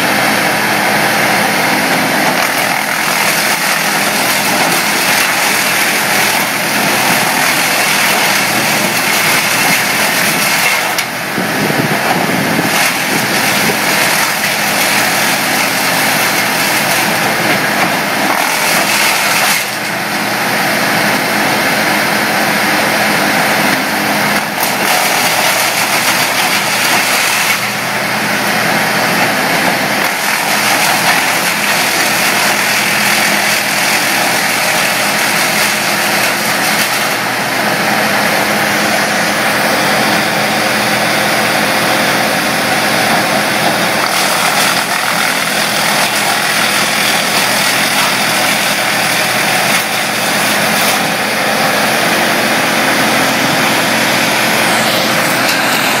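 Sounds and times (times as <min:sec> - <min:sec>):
wood chipper chewing branches: 0:00.0 - 0:56.0.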